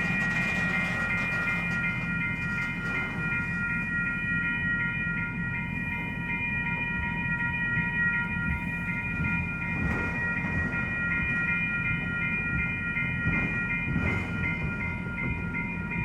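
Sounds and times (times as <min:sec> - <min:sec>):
freight train rumbling past: 0:00.0 - 0:06.4, 0:08.3 - 0:16.0.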